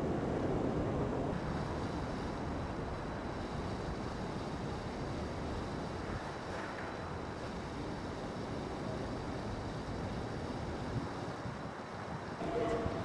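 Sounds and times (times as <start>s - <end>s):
low rumble of traffic: 0.0s - 13.0s
wind on microphone: 0.0s - 13.0s.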